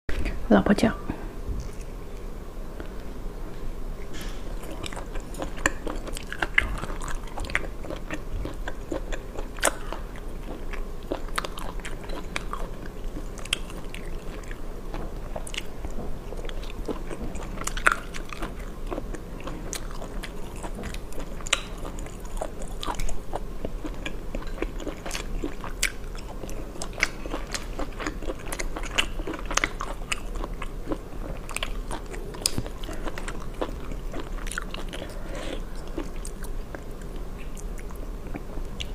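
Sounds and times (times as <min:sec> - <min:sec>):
chewing: 0:01.6 - 0:03.1, 0:04.0 - 0:38.9.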